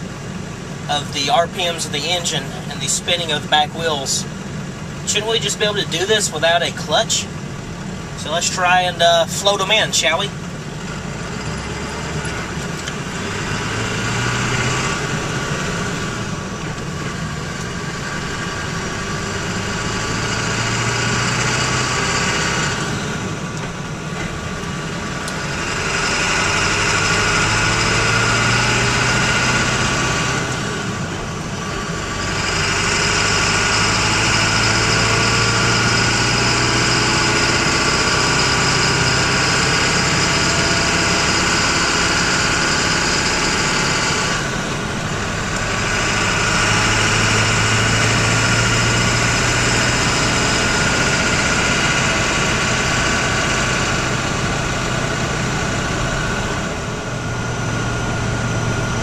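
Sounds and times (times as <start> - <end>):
diesel truck engine pulling: 0.0 - 59.0.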